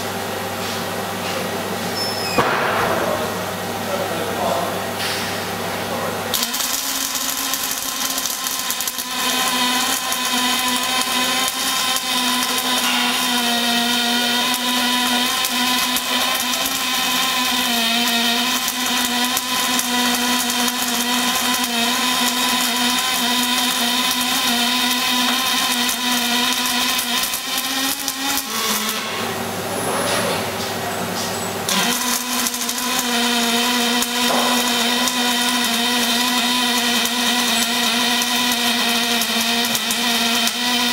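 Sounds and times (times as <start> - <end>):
welding arc buzzing: 0.0 - 5.7, 6.3 - 40.9.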